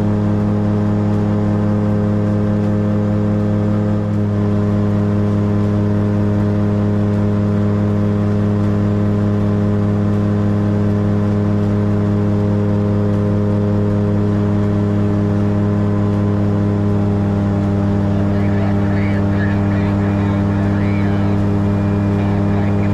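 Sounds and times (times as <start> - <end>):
light aircraft engine and propeller: 0.0 - 22.9.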